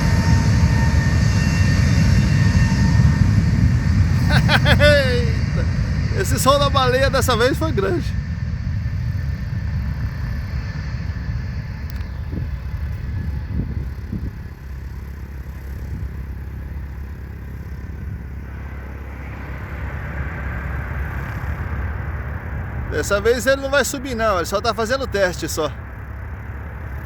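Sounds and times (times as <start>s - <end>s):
jet engines running up: 0.0s - 27.0s.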